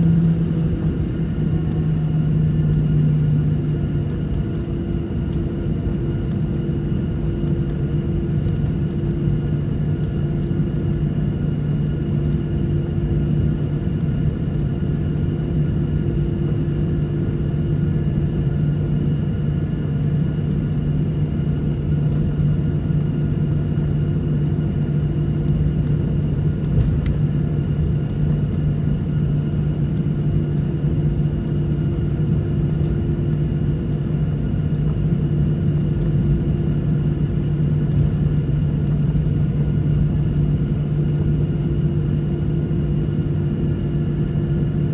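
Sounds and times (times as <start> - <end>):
airliner cabin drone: 0.0 - 44.9
constant hums: 0.0 - 44.9.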